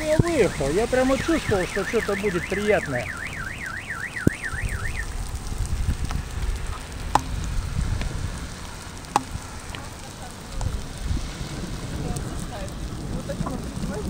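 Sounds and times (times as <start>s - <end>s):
hail and rain pattering: 0.0s - 14.0s
hailstones ticking: 0.0s - 14.0s
wind rumble on microphone: 0.0s - 14.0s.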